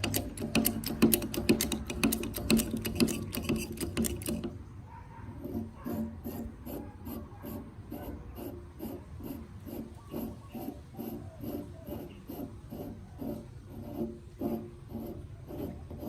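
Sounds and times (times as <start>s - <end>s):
hand tool rasping on metal: 0.0s - 4.6s, 5.3s - 16.0s.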